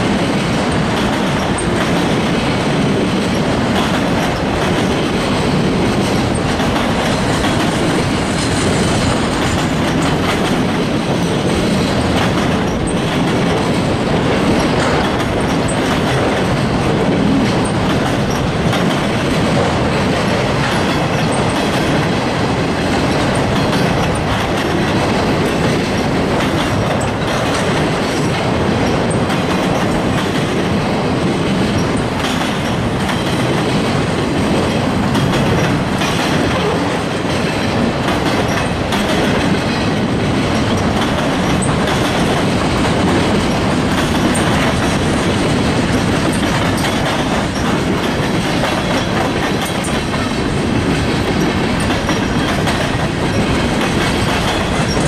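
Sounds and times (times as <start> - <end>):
freight train wheels rumbling on rails: 0.0 - 55.0
wheels clacking over rail joints: 0.0 - 55.0.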